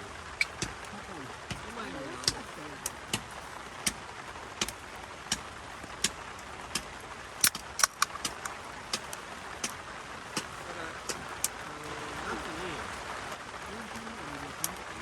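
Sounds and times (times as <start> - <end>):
drops ticking on hard surface: 0.0 - 15.0
steady rain hiss: 0.0 - 15.0.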